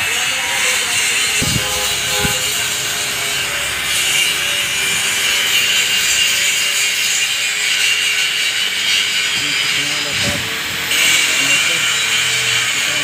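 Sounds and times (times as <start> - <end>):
loud rasping noise: 0.0 - 13.0.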